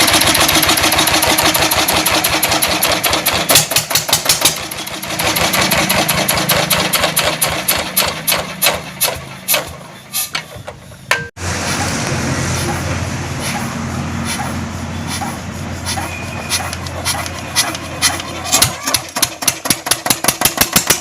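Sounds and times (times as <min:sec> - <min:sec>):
diesel engine knocking: 0:00.0 - 0:09.9, 0:11.1 - 0:21.0.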